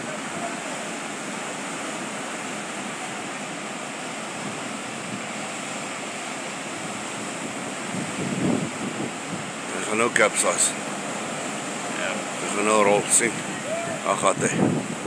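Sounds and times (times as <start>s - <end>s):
heavy surf on rocky shore: 0.0s - 15.0s.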